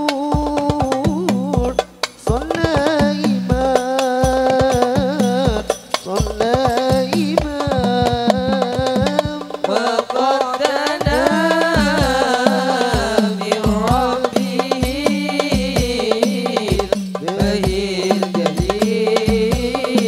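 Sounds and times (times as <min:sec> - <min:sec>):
deep drum beat: 0:00.0 - 0:20.0
hand-beaten frame drums: 0:00.0 - 0:20.0
man singing devotional melody: 0:00.0 - 0:20.0.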